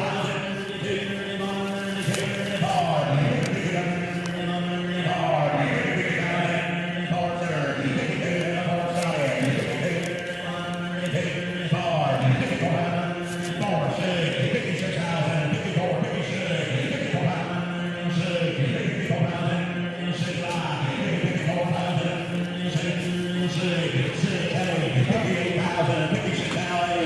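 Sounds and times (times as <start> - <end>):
auctioneer chanting bids: 0.0 - 27.0.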